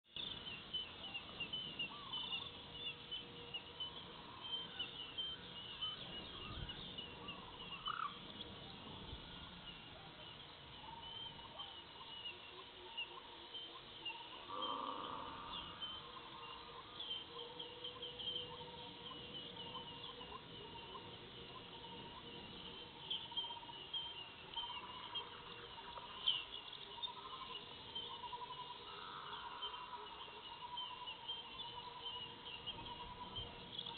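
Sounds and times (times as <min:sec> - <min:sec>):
lower bird calls: 0:00.1 - 0:33.9.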